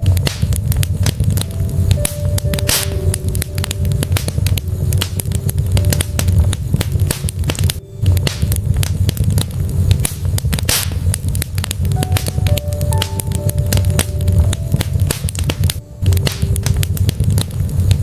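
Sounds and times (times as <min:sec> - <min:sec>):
logs crackling and popping: 0:00.0 - 0:18.0
low rumble of flames: 0:00.0 - 0:18.0.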